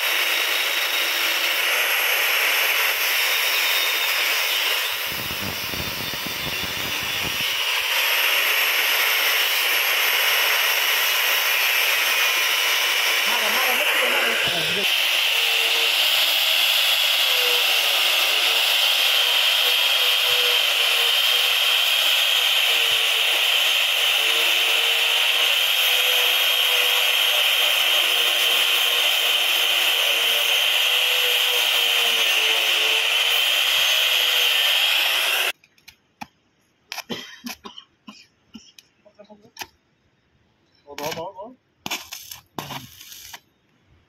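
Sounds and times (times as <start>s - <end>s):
angle grinder grinding steel: 0.0s - 35.6s, 41.9s - 43.4s.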